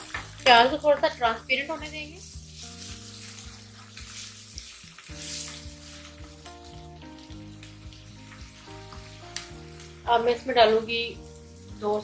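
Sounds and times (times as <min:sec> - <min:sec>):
onions sizzling in hot oil: 0:00.0 - 0:12.0
soft background music: 0:00.0 - 0:12.0.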